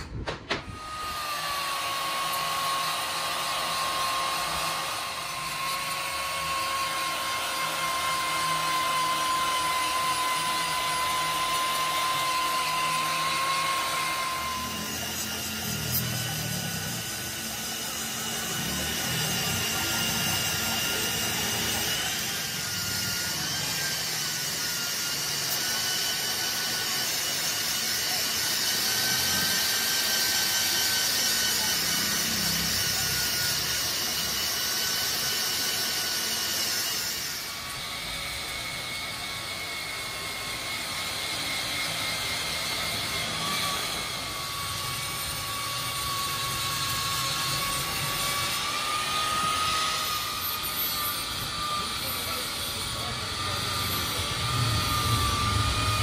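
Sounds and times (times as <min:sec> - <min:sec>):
angle grinder grinding metal: 0:00.0 - 0:56.0.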